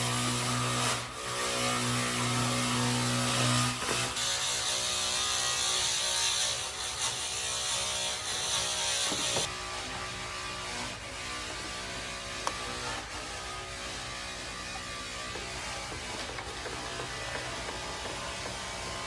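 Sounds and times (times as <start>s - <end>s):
electric power tool humming: 0.0s - 19.0s.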